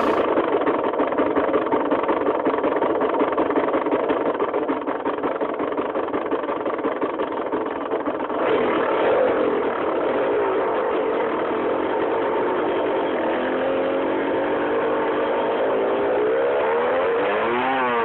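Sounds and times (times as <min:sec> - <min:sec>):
two-stroke motorcycle engine idling: 0:00.0 - 0:18.0.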